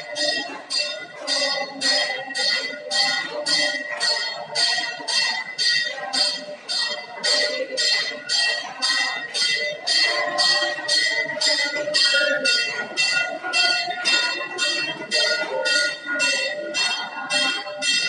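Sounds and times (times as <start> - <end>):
people singing a hymn: 0.0 - 18.0
temple bell ringing: 0.0 - 18.0.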